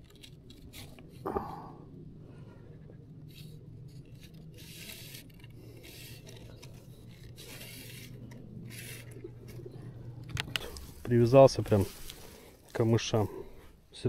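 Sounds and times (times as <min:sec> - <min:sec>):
rod sections scraping: 0:00.0 - 0:01.2, 0:02.7 - 0:13.4.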